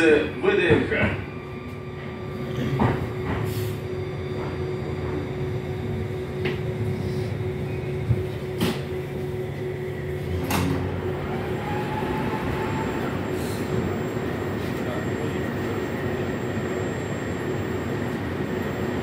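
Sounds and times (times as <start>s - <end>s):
train running hum: 0.0s - 19.0s.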